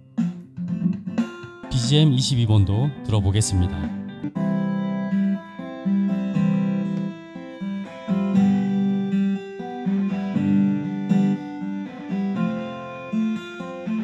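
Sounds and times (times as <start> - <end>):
guitar-led instrumental music: 0.0 - 14.0.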